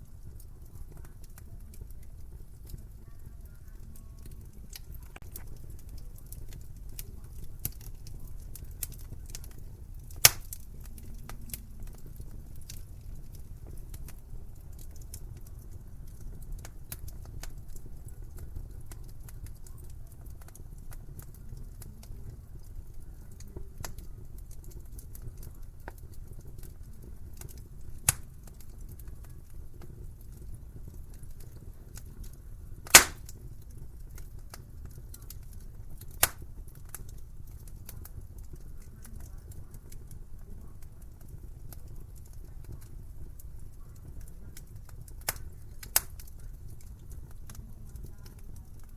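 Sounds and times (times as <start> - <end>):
burning logs popping: 0.0 - 48.9
fire crackling: 0.0 - 48.9
low rumble of flames: 0.0 - 48.9.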